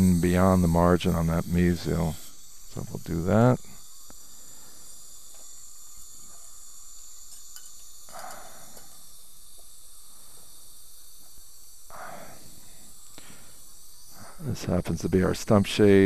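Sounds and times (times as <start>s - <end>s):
dental suction hiss: 0.0s - 16.0s.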